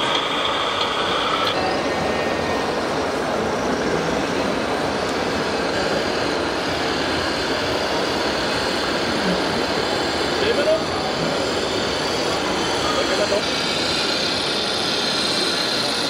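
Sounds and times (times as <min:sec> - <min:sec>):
busy hall din: 0:00.0 - 0:16.0.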